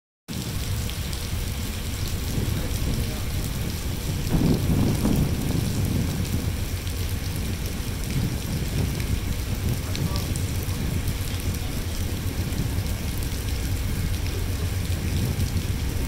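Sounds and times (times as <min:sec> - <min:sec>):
low rumble: 0:00.3 - 0:16.0
rain falling: 0:00.3 - 0:16.0.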